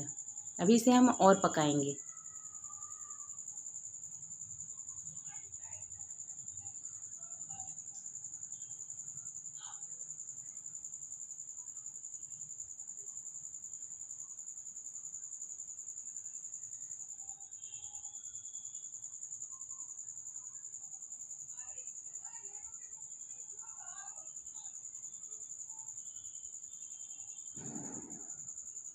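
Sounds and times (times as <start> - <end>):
cricket chirping: 0.0 - 28.9.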